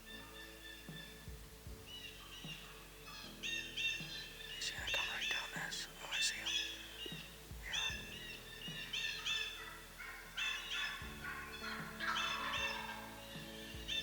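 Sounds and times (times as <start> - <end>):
wild turkey calling: 0.0 - 1.2, 1.8 - 14.0.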